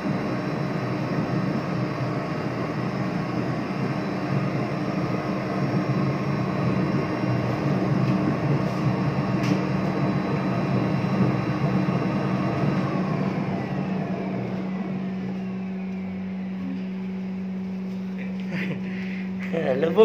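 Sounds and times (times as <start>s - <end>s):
tub motor humming: 0.0s - 20.0s.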